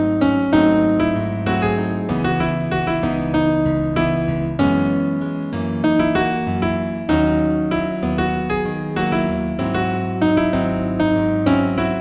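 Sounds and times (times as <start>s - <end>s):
gentle solo piano: 0.0s - 12.0s.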